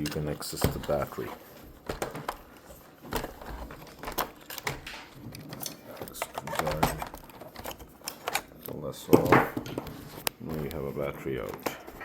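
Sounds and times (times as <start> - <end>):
plastic clicks and knocks: 0.0 - 12.0.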